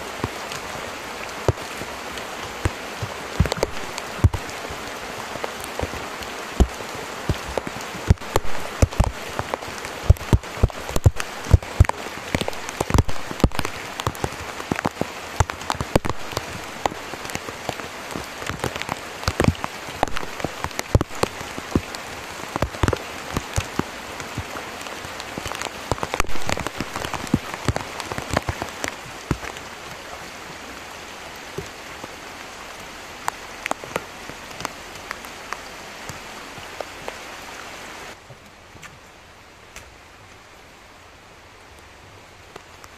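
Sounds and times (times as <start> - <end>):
close raindrop hits: 0.0 - 39.1
heavy rain falling: 0.0 - 42.9.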